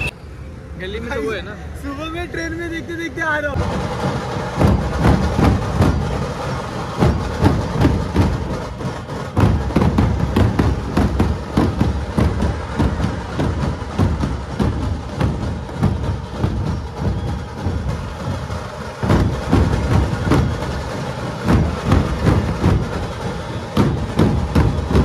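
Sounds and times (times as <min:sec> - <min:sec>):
barrel drums beaten with sticks: 0:03.6 - 0:25.0.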